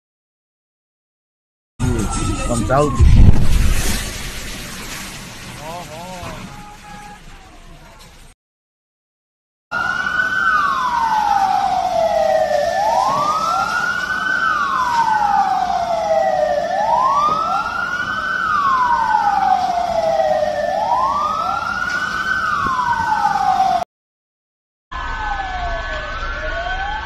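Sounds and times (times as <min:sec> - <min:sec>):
emergency sirens wailing: 0:01.8 - 0:07.9, 0:09.7 - 0:23.9, 0:25.0 - 0:27.0.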